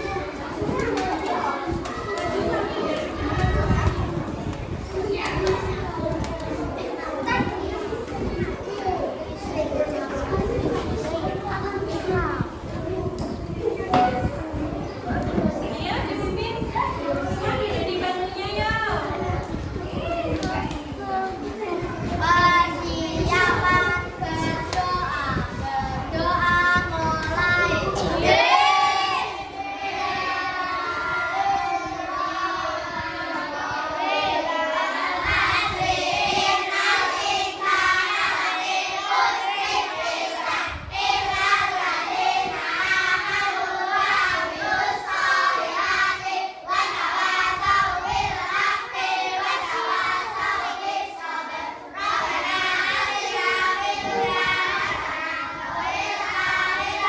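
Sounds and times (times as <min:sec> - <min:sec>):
children singing together: 0:00.0 - 0:15.6, 0:19.1 - 0:57.0.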